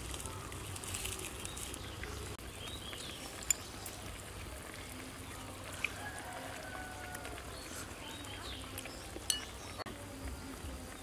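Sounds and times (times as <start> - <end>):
slurping and chewing: 0.0 - 9.9.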